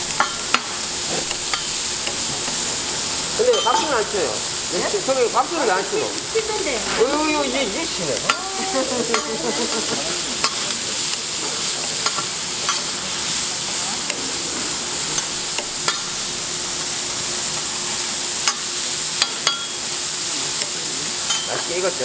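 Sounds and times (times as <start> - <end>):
meat sizzling on a griddle: 0.0 - 22.0.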